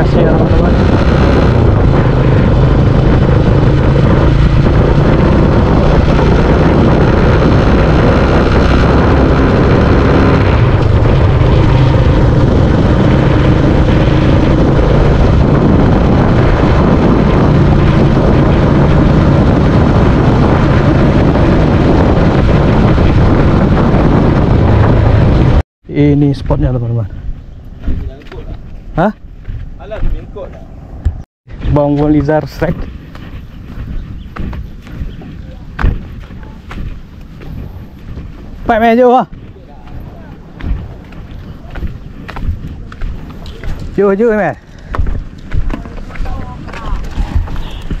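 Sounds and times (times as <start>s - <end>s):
wind noise on microphone: 0.0s - 48.0s.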